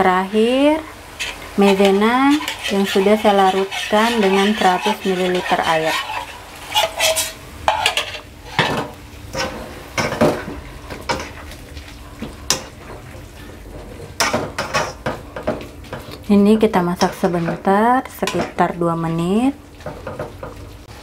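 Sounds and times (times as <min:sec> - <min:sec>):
low sizzle: 0:00.0 - 0:21.0
spatula scraping and knocking wok: 0:00.3 - 0:18.8, 0:19.7 - 0:20.8.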